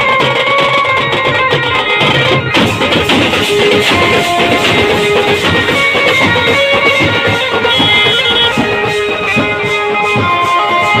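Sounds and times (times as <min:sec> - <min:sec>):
loud music with steady beat: 0:00.8 - 0:11.0.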